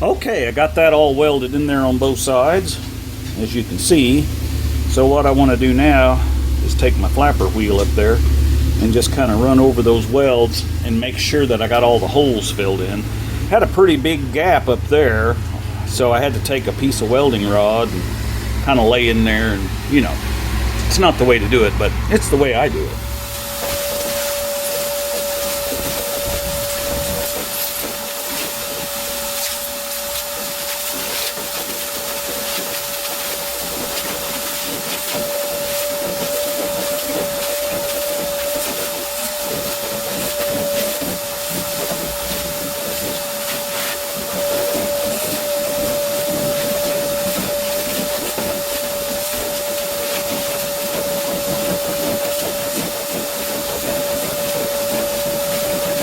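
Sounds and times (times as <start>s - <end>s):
angle grinder grinding metal: 0.1s - 56.0s.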